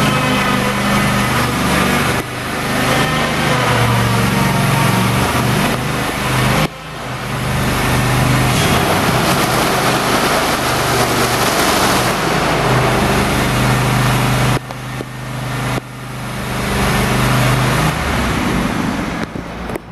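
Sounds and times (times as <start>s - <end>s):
mower engine running: 0.0s - 19.9s.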